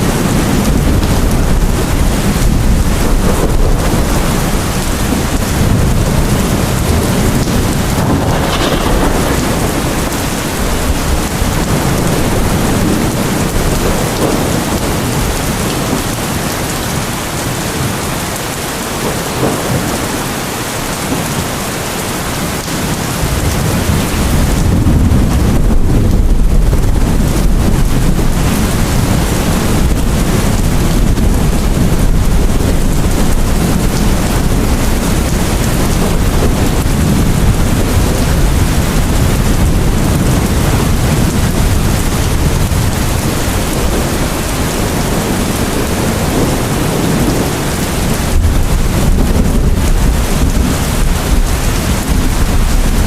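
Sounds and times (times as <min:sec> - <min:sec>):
heavy rain falling: 0:00.0 - 0:53.0
rolling thunder rumble: 0:00.0 - 0:53.0.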